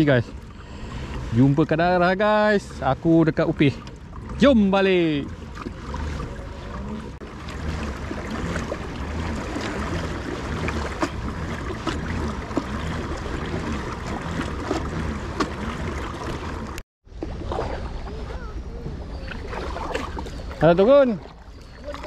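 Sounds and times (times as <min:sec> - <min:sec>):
pedal drive churning: 0:00.0 - 0:22.0
water washing along hull: 0:00.0 - 0:22.0.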